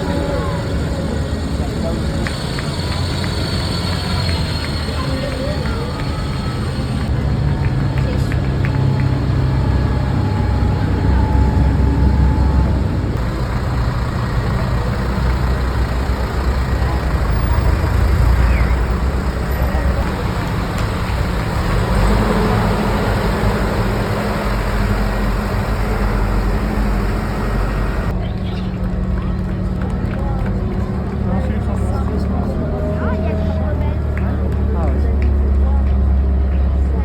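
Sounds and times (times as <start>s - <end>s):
motor vehicles rumbling: 0.0s - 37.0s.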